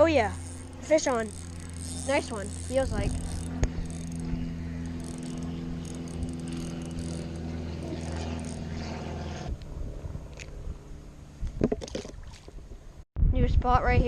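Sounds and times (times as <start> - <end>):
motor humming: 0.0 - 11.6.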